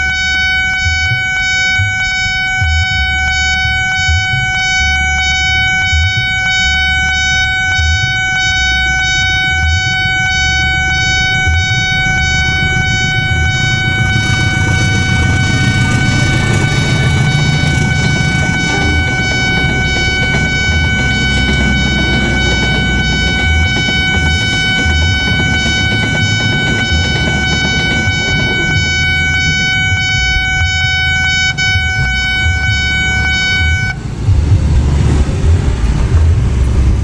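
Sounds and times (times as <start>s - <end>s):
level crossing alarm: 0.0s - 34.1s
passenger train passing: 0.0s - 37.0s.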